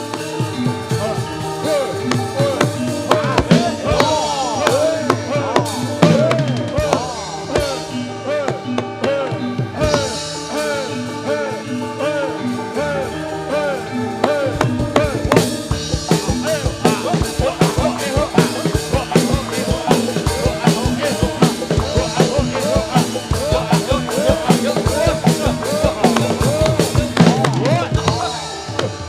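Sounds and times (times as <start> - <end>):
drums beating steady rhythm: 0.0 - 29.0
ringing pitched percussion: 0.0 - 29.0.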